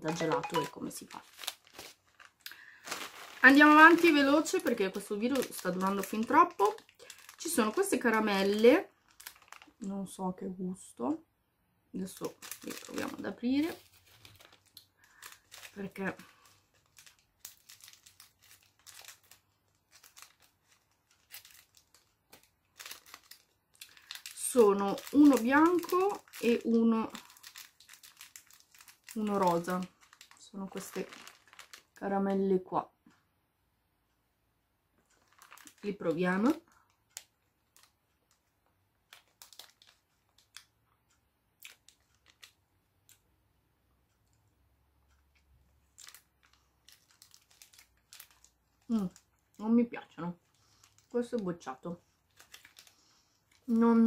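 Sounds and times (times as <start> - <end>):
candy wrapper crinkling: 0.0 - 10.2, 12.0 - 32.4, 35.0 - 40.8, 41.6 - 43.2, 45.1 - 54.0
plastic packet crackling: 0.0 - 10.2, 12.0 - 32.5, 35.0 - 40.8, 41.6 - 43.2, 45.8 - 54.0.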